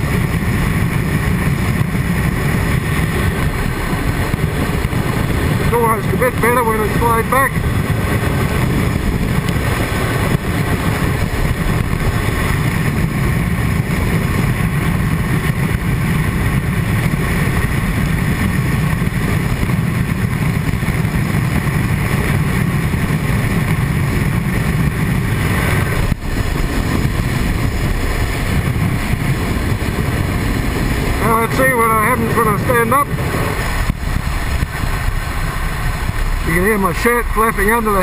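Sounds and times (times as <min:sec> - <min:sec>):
wind buffeting inside helmet: 0:00.0 - 0:38.0.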